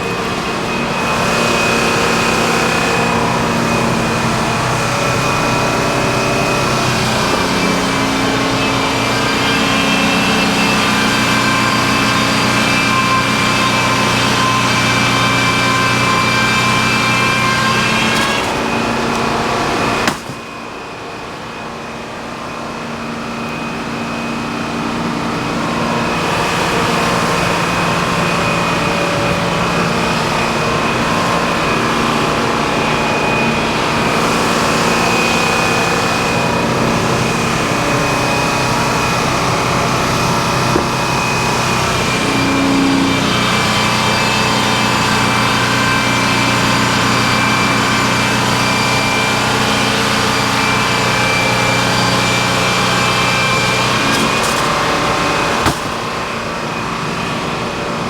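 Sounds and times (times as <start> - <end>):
high saw whine: 0.0 - 58.0
sawmill engine running: 0.0 - 58.0.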